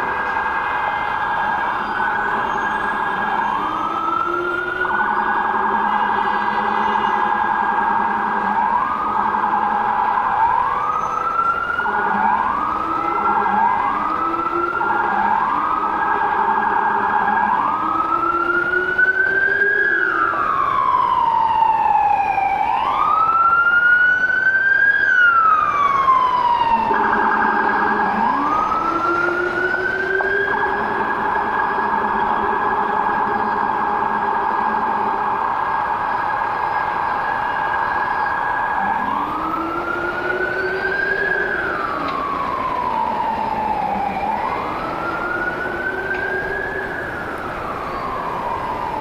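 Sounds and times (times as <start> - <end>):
emergency vehicle siren wailing: 0.0 - 49.0
street traffic: 0.0 - 49.0.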